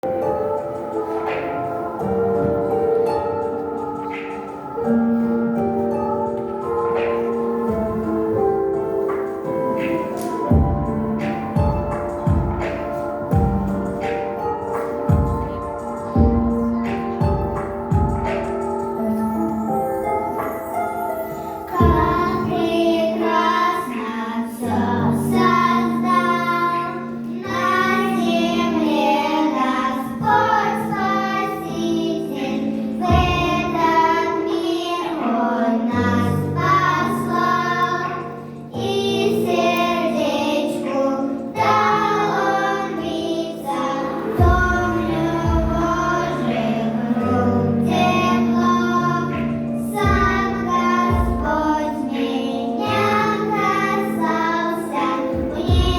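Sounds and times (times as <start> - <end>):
children singing together: 0.0 - 55.9
instrumental backing track: 0.0 - 55.9.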